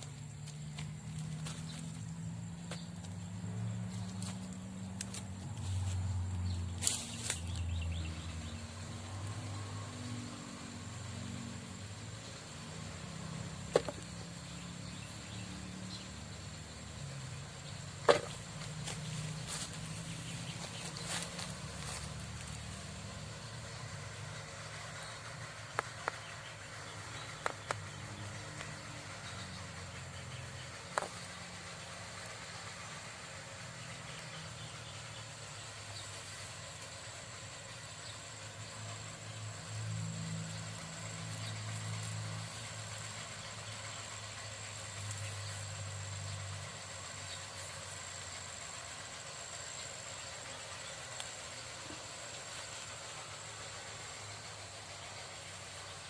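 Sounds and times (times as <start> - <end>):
low motor rumble: 0.0 - 56.0.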